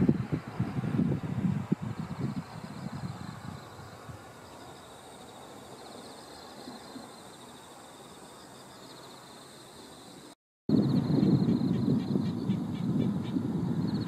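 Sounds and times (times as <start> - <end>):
distant train rush: 0.0 - 14.0.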